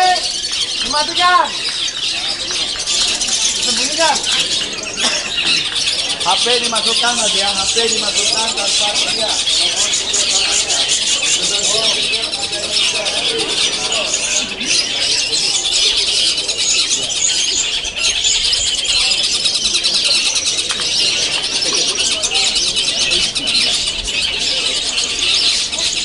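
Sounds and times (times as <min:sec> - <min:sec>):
many birds chattering: 0:00.0 - 0:26.0.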